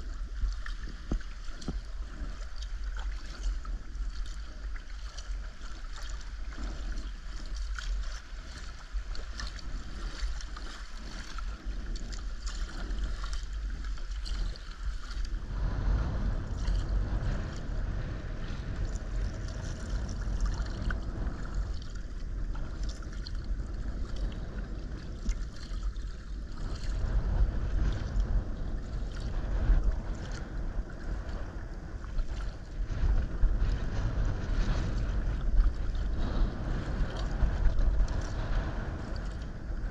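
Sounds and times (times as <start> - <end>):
paddle splashing water: 0.0 - 39.9
water lapping along hull: 0.0 - 39.9
wind buffeting microphone: 0.0 - 39.9.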